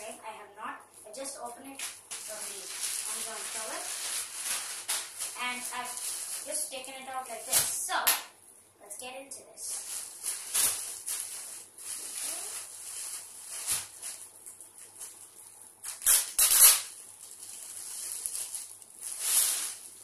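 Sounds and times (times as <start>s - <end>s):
plastic bag crinkling: 0.9s - 7.8s, 9.7s - 20.0s.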